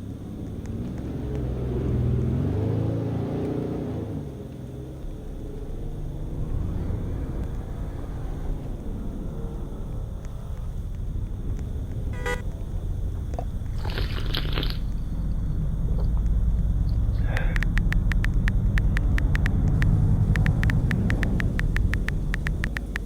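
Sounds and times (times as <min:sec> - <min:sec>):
rapid sharp ticks: 0:00.0 - 0:03.6, 0:04.2 - 0:23.0
low vehicle motor rumble: 0:00.0 - 0:23.0.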